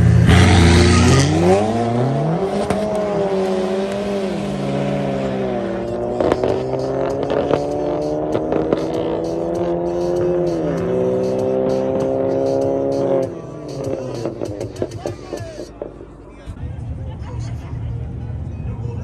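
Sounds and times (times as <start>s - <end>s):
cars accelerating hard: 0.0s - 17.2s.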